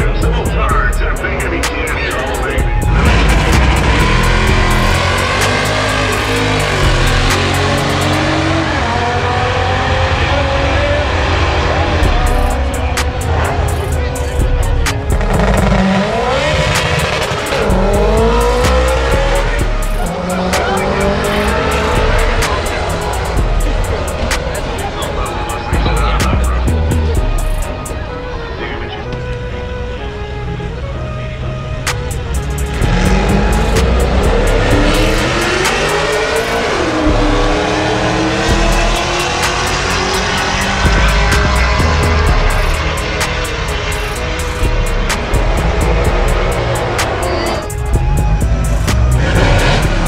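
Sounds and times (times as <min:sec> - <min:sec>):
hi-hat beat: 0:00.0 - 0:08.4, 0:12.0 - 0:27.9, 0:31.9 - 0:50.0
car engine revving: 0:00.0 - 0:50.0
music with heavy bass: 0:00.0 - 0:50.0.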